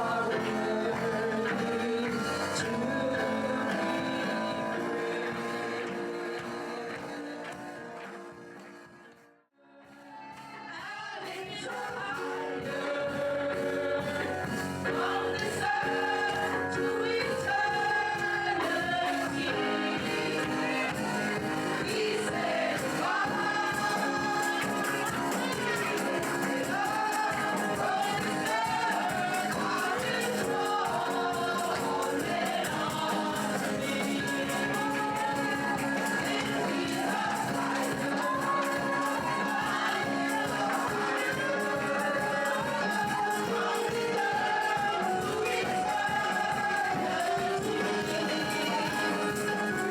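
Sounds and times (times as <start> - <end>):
percussion beat: 0.0 - 8.8, 11.6 - 49.9
voices singing gospel song: 0.0 - 9.2, 9.8 - 49.9.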